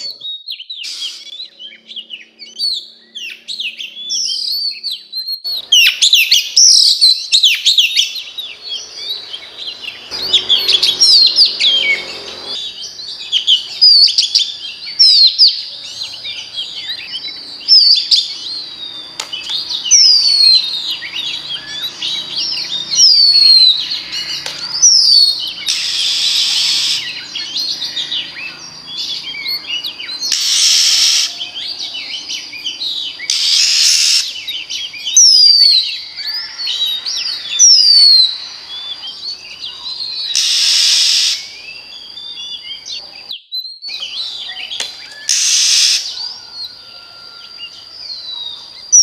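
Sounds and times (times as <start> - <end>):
bird singing whistled notes: 0.0 - 49.0.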